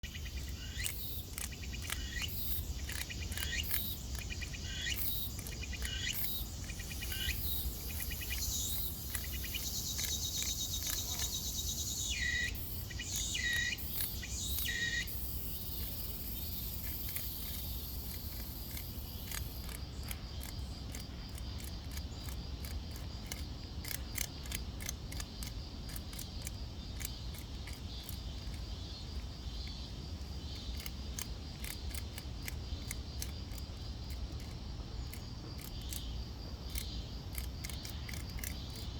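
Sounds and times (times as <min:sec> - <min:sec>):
cicada harsh buzzing: 0:00.0 - 0:38.9
rapid irregular clicking: 0:00.0 - 0:38.9.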